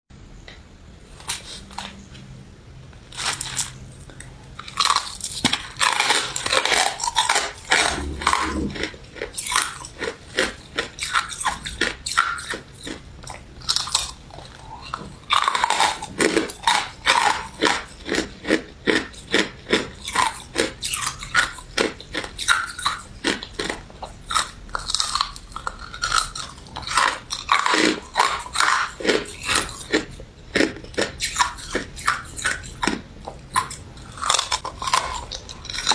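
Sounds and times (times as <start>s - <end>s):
chewing crunchy ice: 3.1s - 35.9s.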